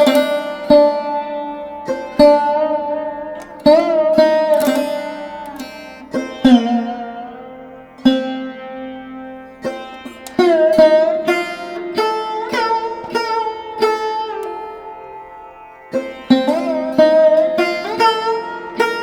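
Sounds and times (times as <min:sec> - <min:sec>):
plucked string melody: 0:00.0 - 0:19.0.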